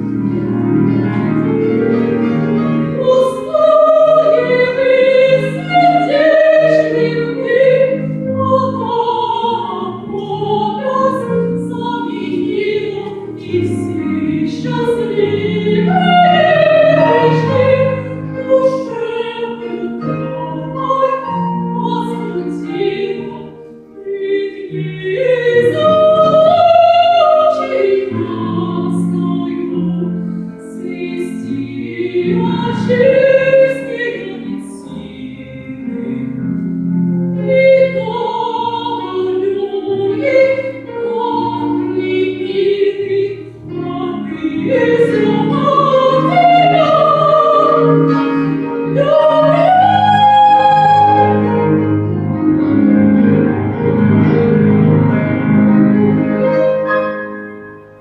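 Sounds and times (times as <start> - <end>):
instrumental accompaniment: 0.0 - 58.0
operatic singing: 2.7 - 36.7, 37.4 - 52.3.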